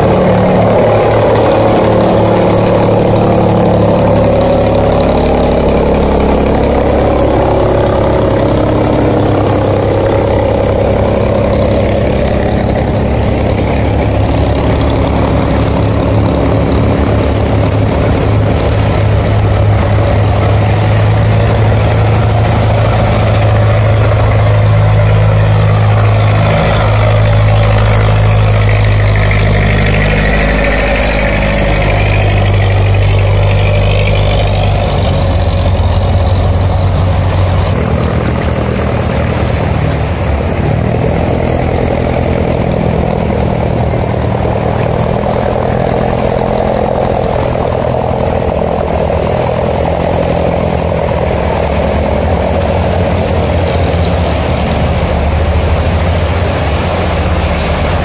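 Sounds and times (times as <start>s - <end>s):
boat engine droning: 0.0s - 58.0s
water rushing around hull: 0.0s - 58.0s.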